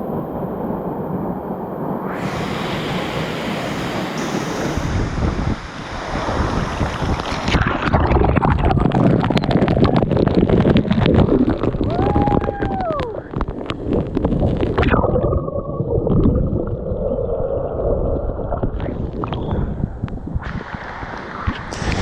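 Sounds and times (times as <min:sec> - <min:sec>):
wind buffeting microphone: 0:00.0 - 0:16.6, 0:17.8 - 0:22.0
falling water roaring: 0:02.0 - 0:19.8, 0:20.4 - 0:22.0.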